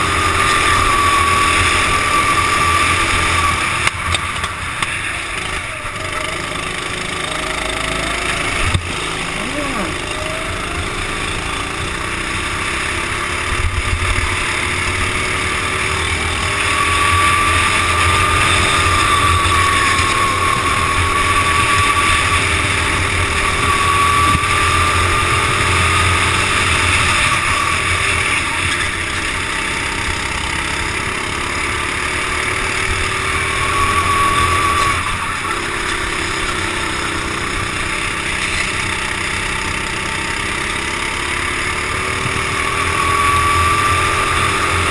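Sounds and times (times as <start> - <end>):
go-kart engine whine: 0.0 - 44.9
wind and road noise: 0.0 - 44.9.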